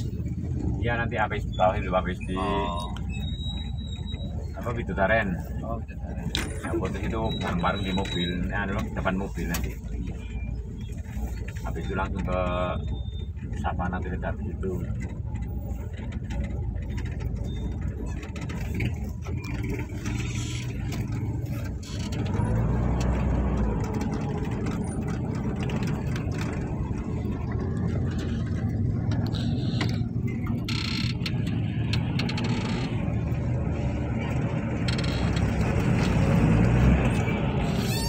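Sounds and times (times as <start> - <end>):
car engine running inside cabin: 0.0 - 38.0.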